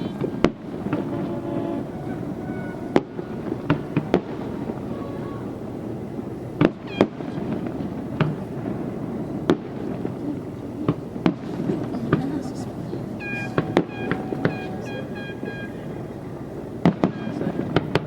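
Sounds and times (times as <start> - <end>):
fireworks bangs: 0.0 - 18.0
steady background noise: 0.0 - 18.0.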